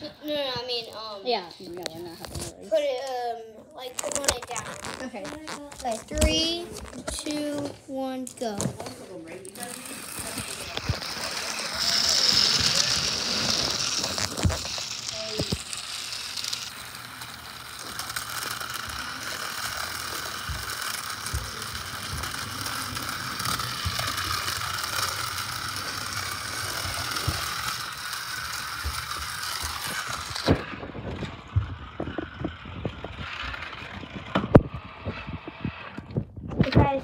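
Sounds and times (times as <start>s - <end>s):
toy car motor whirring: 0.0s - 37.0s
wheels clattering on plastic track: 3.9s - 37.0s.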